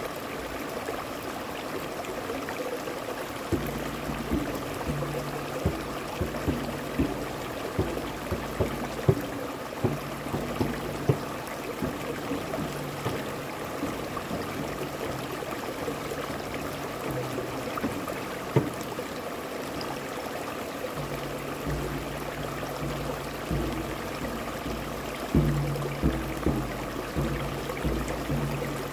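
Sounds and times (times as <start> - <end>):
stream rushing over rocks: 0.0 - 28.9
hand strikes on frame drum: 3.5 - 19.0, 21.0 - 28.9.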